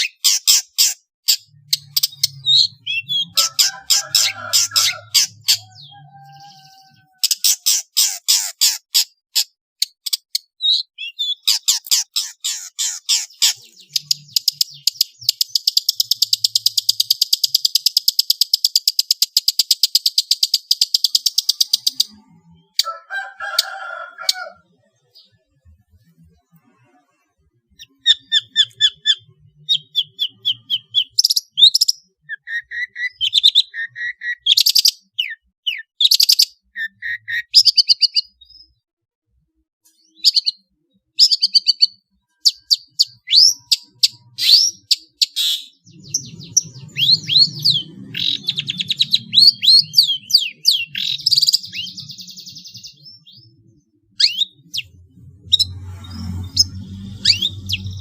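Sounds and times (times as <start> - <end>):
buzzy bird chatter: 0.0 - 38.4, 40.2 - 58.0
songbird chirps and trills: 0.0 - 38.8, 39.8 - 58.0.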